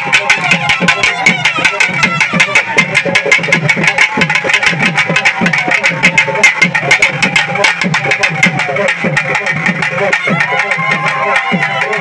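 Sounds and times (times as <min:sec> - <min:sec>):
loud rapid drumming: 0:00.0 - 0:12.0.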